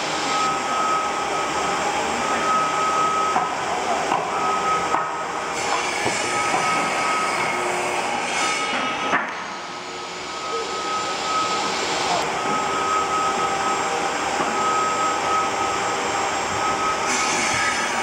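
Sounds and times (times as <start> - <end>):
table saw motor whining: 0.0 - 18.0.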